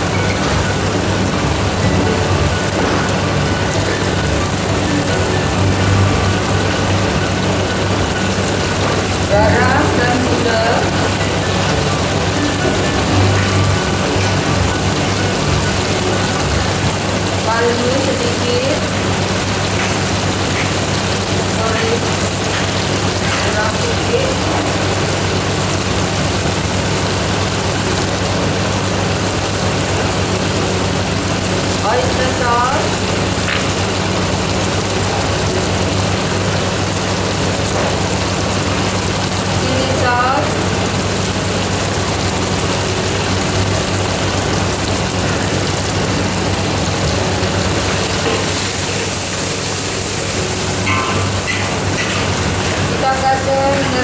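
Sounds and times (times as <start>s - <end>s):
sauce sizzling in wok: 0.0s - 54.0s.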